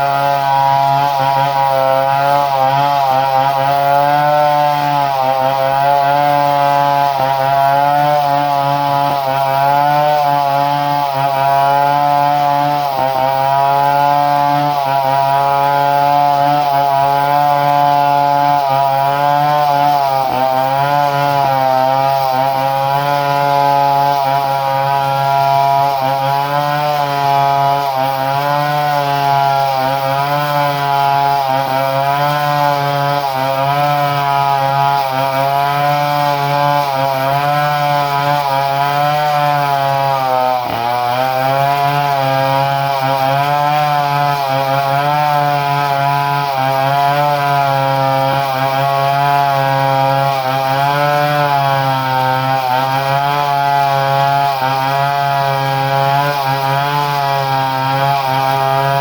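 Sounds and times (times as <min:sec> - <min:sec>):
two-stroke chainsaw engine running: 0:00.0 - 0:59.0.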